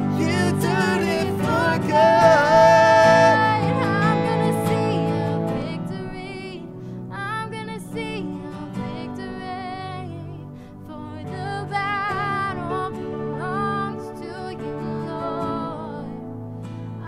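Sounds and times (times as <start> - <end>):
acoustic guitar: 0.0 - 17.0
keyboard: 0.0 - 17.0
woman singing worship song: 0.0 - 17.0.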